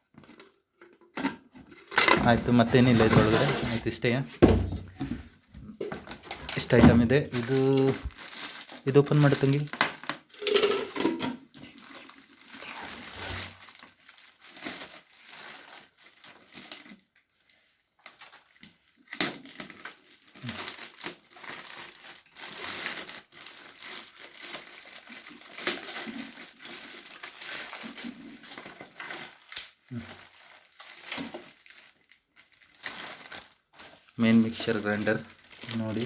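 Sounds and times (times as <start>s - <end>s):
packaging crinkling and rustling: 1.6s - 36.0s.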